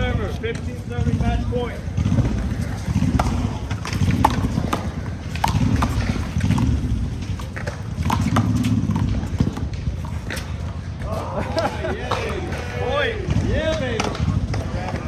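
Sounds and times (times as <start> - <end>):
ball hitting wall and bouncing: 0.0 - 15.0
footsteps on court: 0.0 - 15.0.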